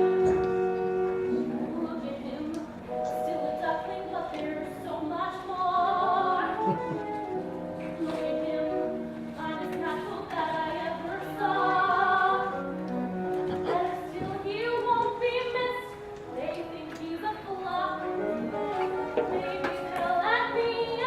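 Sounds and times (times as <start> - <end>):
musical accompaniment: 0.0 - 21.0.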